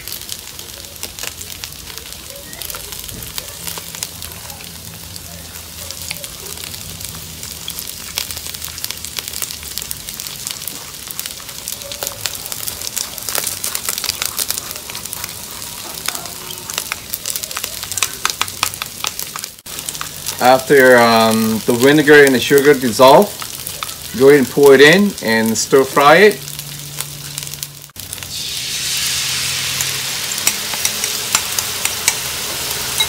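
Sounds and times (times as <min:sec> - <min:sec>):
chicken wings sizzling in oil: 0:00.0 - 0:33.0
hot oil popping: 0:00.0 - 0:33.0.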